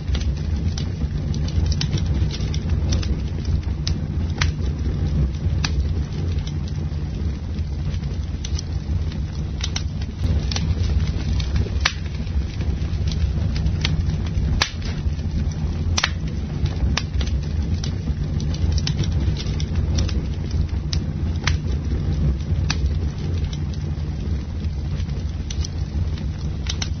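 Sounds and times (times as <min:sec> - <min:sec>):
campfire crackling and popping: 0:00.0 - 0:27.0
low fire rumble: 0:00.0 - 0:27.0.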